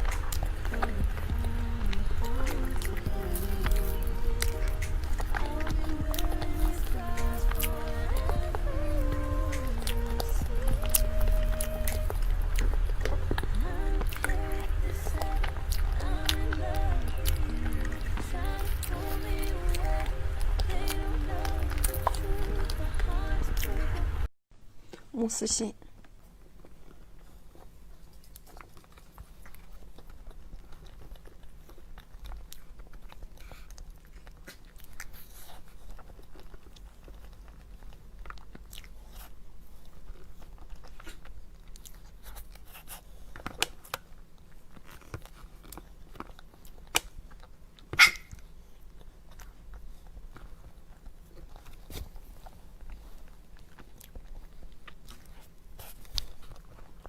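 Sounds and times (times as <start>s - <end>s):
person chewing food: 0.0s - 25.1s, 25.9s - 57.0s.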